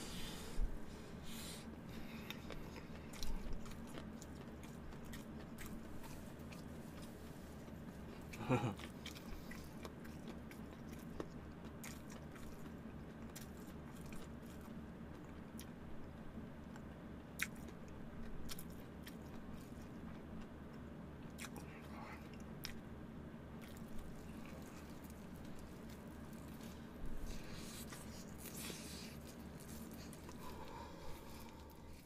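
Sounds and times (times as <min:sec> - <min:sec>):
steady low hum: 0:00.0 - 0:32.0
chewing with crunches: 0:01.2 - 0:32.0.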